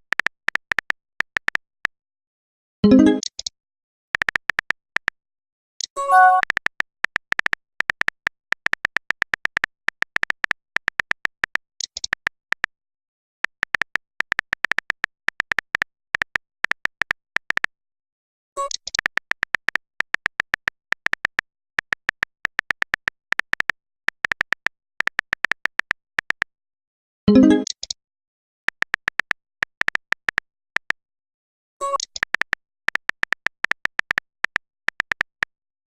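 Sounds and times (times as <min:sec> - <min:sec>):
phone keyboard typing ticks: 0:00.0 - 0:02.0, 0:02.9 - 0:03.5, 0:04.2 - 0:05.2, 0:05.8 - 0:17.8, 0:18.6 - 0:26.5, 0:27.3 - 0:28.0, 0:28.7 - 0:31.0, 0:31.8 - 0:35.6.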